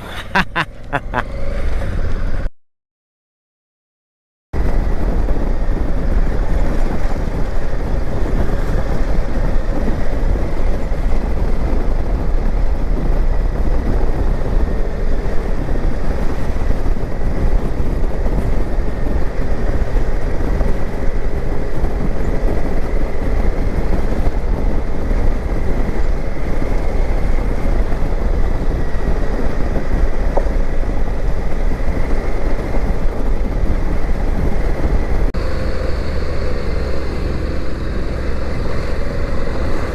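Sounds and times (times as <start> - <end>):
wind and road noise: 0.0 - 2.5, 4.6 - 39.9.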